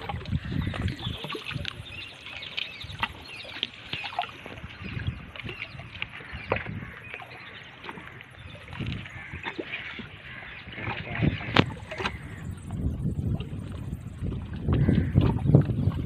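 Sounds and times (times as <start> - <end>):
lake water lapping: 0.0 - 16.0.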